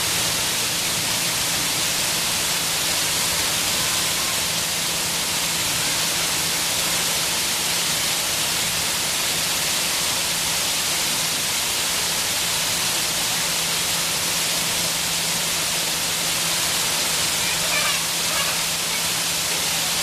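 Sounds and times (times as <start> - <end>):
fountain streams splashing: 0.0 - 20.0.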